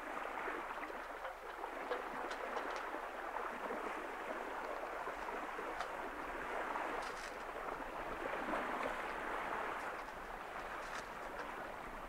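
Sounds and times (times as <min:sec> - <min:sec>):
sea water rushing along hull: 0:00.0 - 0:12.0.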